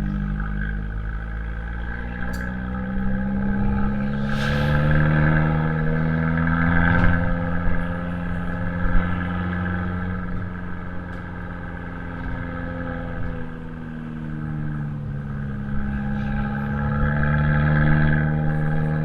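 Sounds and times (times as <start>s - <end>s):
car exhaust while driving: 0.0s - 19.0s.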